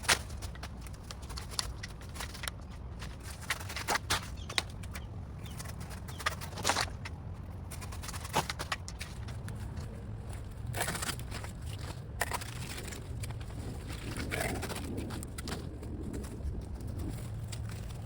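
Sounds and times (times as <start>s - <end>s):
plant fronds rustling and crackling: 0.0s - 18.0s.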